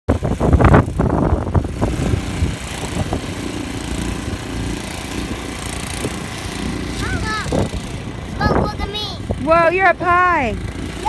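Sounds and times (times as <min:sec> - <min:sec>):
small engine running: 0:00.1 - 0:11.0.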